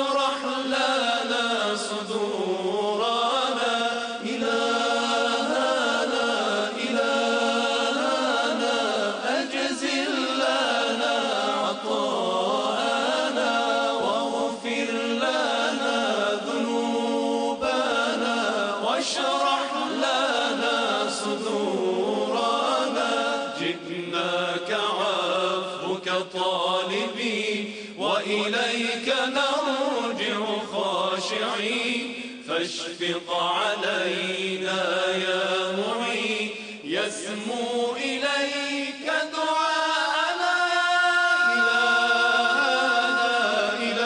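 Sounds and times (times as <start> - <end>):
men singing devotional chant: 0.0 - 44.0.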